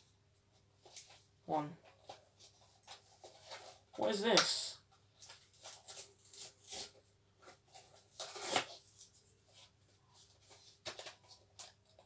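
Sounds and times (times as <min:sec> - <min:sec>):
packaging rustling and scraping: 0:00.8 - 0:04.0, 0:05.2 - 0:12.0.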